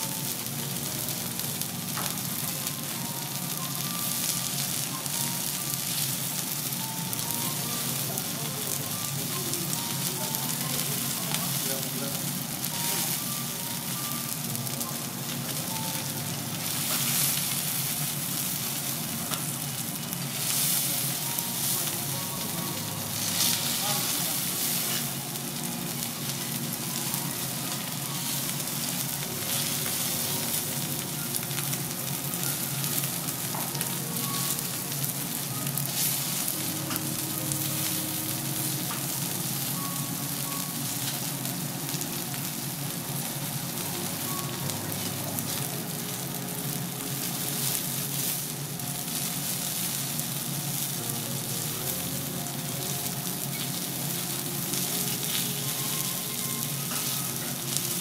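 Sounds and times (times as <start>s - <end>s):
steak sizzling on a griddle: 0.0s - 58.0s.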